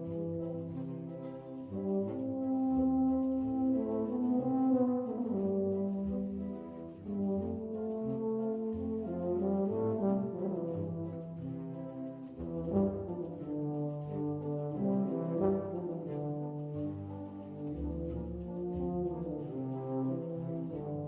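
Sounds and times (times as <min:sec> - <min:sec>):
solo tuba: 0:00.0 - 0:21.0
wind band playing: 0:00.0 - 0:21.0.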